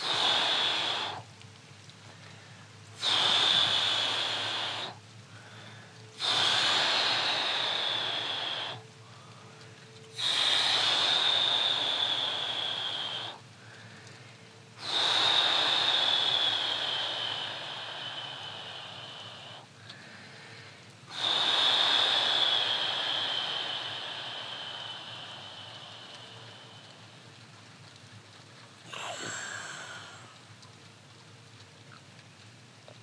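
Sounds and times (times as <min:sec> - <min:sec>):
man breathing heavily with wheeze: 0:00.0 - 0:30.8.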